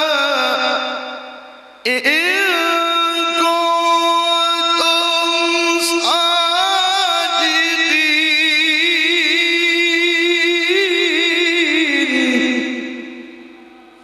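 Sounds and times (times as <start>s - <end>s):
man reciting melismatically: 0.0s - 14.0s.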